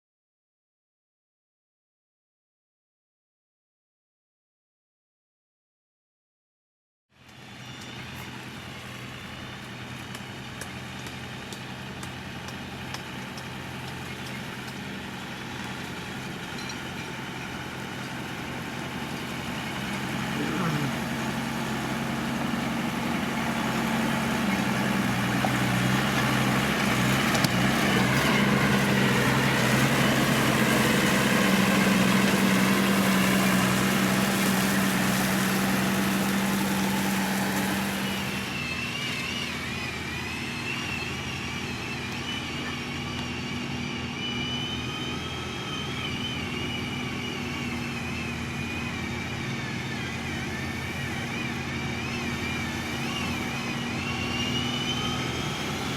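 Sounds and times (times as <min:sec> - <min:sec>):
heavy machinery diesel engine: 0:07.2 - 0:55.9.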